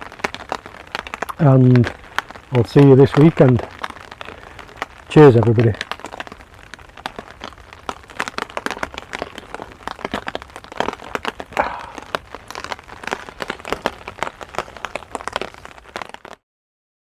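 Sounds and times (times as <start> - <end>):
heavy rain drops tapping: 0.0 - 16.4.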